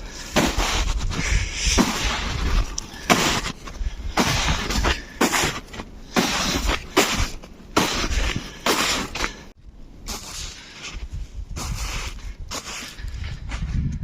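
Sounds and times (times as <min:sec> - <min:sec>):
footsteps crunching through snow: 0:00.0 - 0:14.0.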